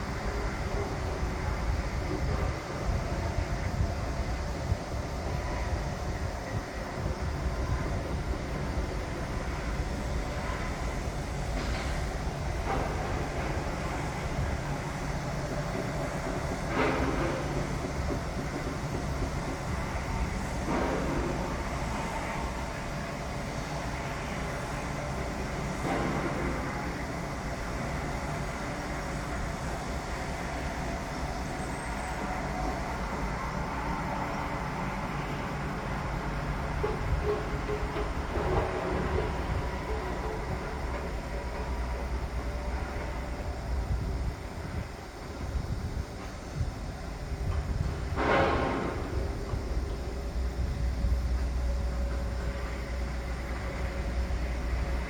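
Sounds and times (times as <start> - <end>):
low machinery rumble: 0.0 - 55.0.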